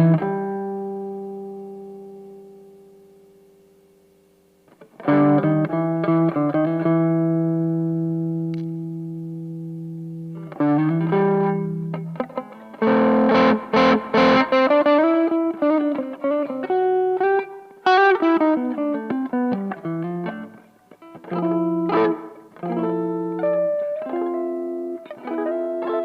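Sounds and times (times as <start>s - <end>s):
overdriven electric guitar: 0.0s - 3.8s, 4.6s - 26.0s.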